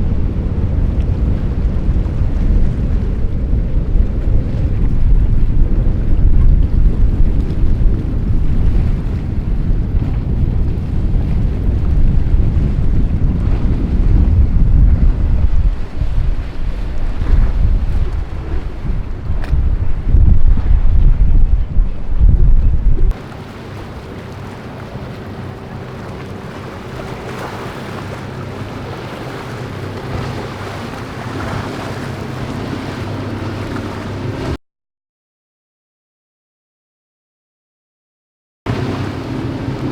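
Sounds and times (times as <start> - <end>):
boat engine humming: 0.0 - 34.6, 38.7 - 39.9
rough sea water: 0.0 - 34.6, 38.7 - 39.9
rushing waves: 0.0 - 34.6, 38.7 - 39.9
wind buffeting microphone: 0.0 - 34.6, 38.7 - 39.9.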